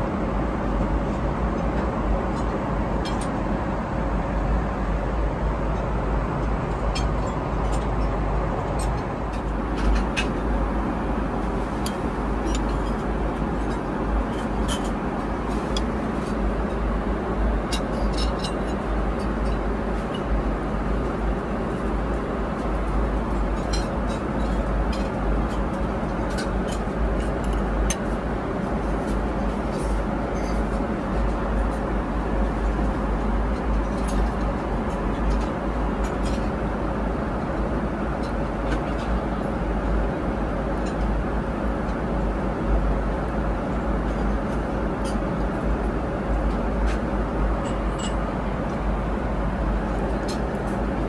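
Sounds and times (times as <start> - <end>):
airplane cabin roar: 0.0 - 51.0.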